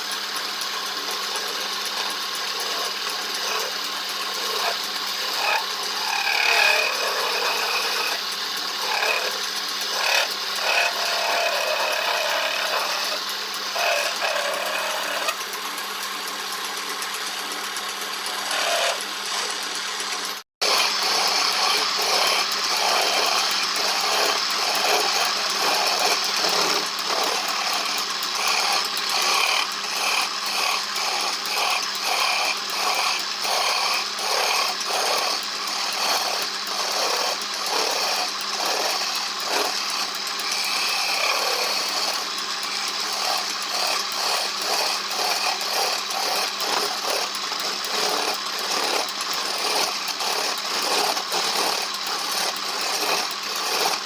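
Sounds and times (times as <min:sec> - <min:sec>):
power tool working wood: 0:00.0 - 0:54.0.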